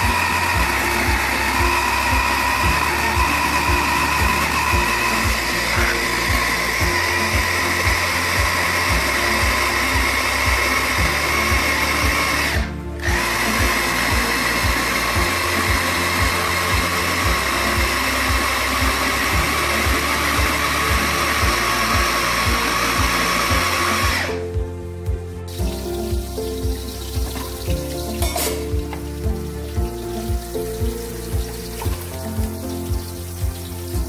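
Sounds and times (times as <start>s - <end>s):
background music with beat: 0.0s - 34.0s
food chopper motor running: 0.0s - 34.0s.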